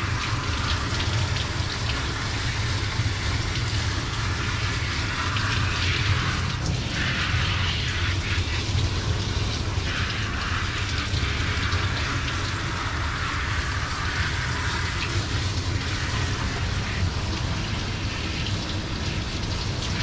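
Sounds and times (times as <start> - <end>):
hose spraying water: 0.0 - 20.0.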